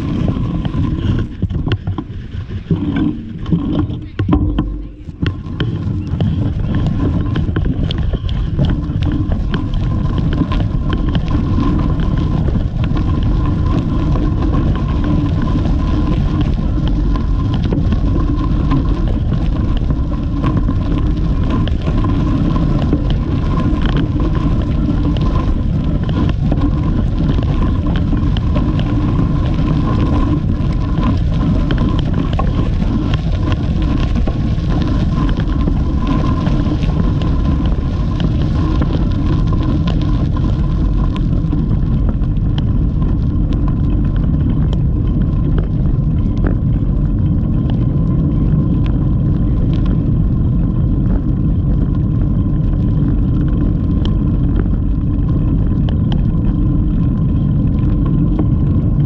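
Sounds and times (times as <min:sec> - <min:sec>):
tyres clicking on dirt path: 0:00.0 - 0:59.0
wind buffeting microphone: 0:00.0 - 0:59.0.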